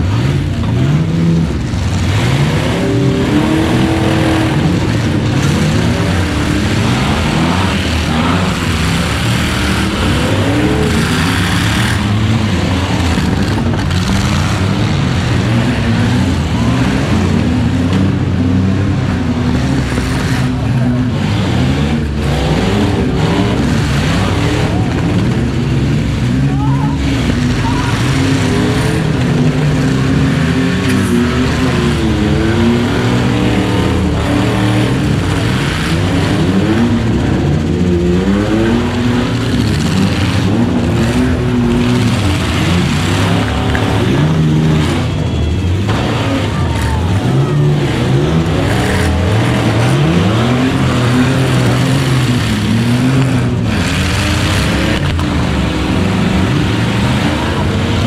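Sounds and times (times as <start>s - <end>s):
engines revving: 0.0s - 58.0s.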